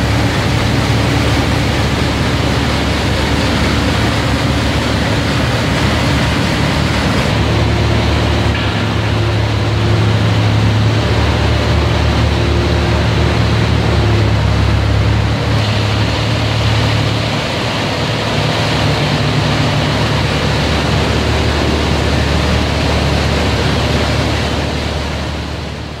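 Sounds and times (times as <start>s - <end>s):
fans rushing: 0.0s - 26.0s
machinery hum: 0.0s - 26.0s.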